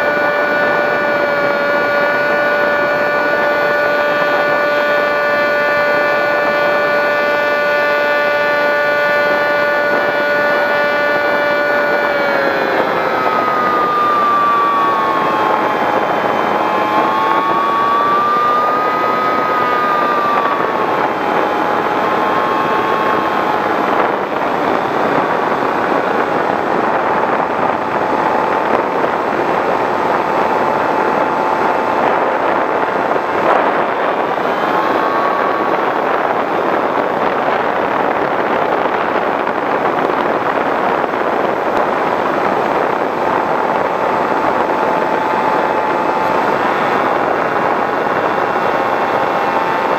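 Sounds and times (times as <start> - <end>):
electric motor and propeller whine: 0.0 - 49.9
loud rushing wind: 0.0 - 49.9.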